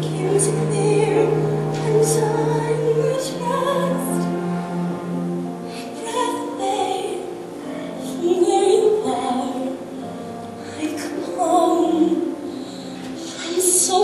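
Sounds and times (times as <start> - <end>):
woman singing ballad: 0.0 - 4.3, 5.8 - 14.0
backing music: 0.0 - 14.0.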